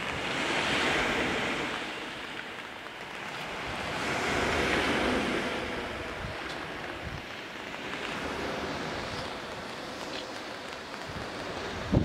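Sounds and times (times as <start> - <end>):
waves breaking on pebble beach: 0.0 - 12.0
wind rumble on microphone: 0.0 - 12.0.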